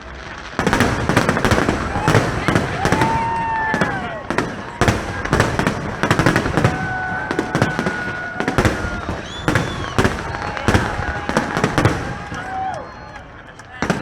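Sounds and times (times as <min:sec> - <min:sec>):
fireworks bangs and crackles: 0:00.0 - 0:14.0
fireworks whistling: 0:00.0 - 0:14.0.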